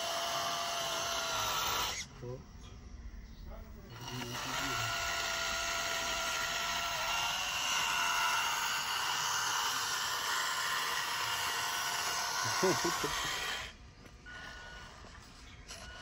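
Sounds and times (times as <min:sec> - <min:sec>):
small motor and gears whining: 0:00.0 - 0:02.4, 0:03.8 - 0:16.0.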